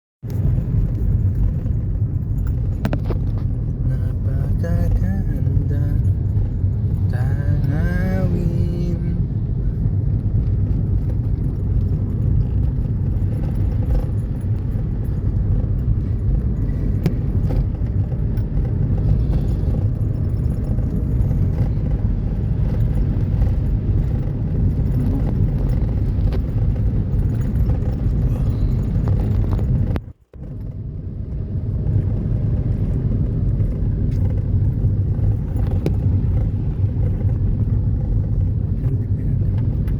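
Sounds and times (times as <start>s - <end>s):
loud low rumble: 0.3s - 39.9s.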